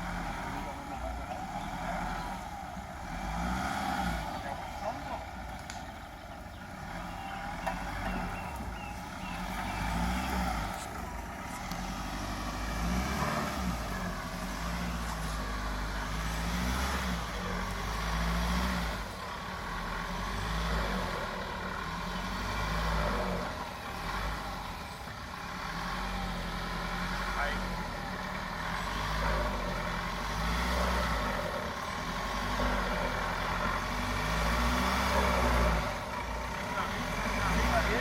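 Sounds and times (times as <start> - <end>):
off-road engine revving: 0.0 - 38.0.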